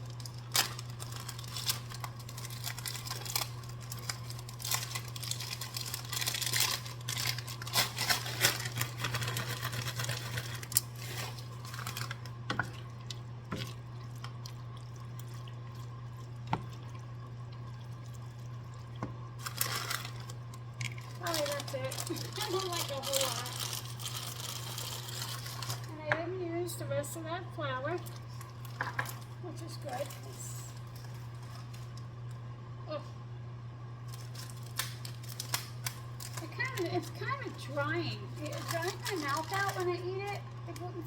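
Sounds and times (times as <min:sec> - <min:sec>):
plastic bag crinkling: 0:00.0 - 0:16.3, 0:19.4 - 0:26.0, 0:27.9 - 0:32.0, 0:34.1 - 0:41.0
steady low hum: 0:00.0 - 0:41.0.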